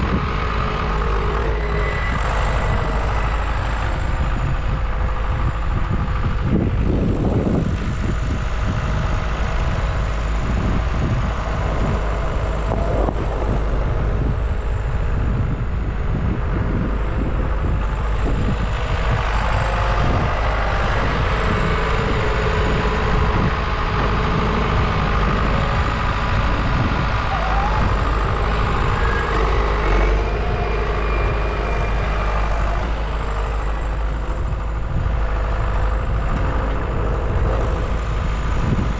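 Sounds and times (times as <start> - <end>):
faint steady whine: 0.0 - 38.9
vehicle engine rumbling: 0.0 - 38.9.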